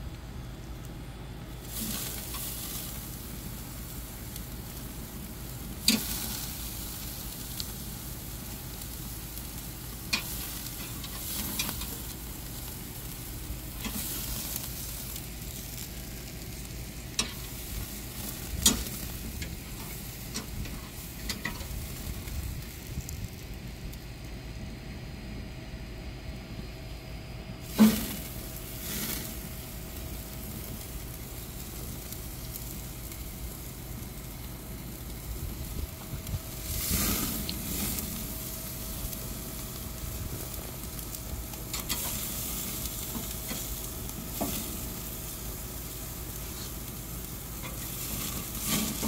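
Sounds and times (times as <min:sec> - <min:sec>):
steaks sizzling on grill: 0:01.5 - 0:23.7, 0:27.6 - 0:49.0.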